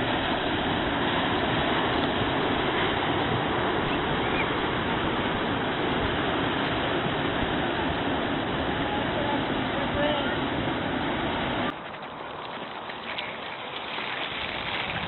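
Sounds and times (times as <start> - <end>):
ocean surf breaking: 0.0 - 15.0
wind: 0.0 - 15.0.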